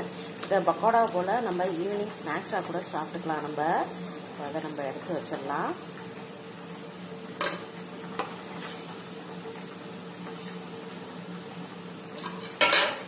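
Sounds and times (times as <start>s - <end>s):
batter deep-frying in hot oil: 0.0s - 13.0s.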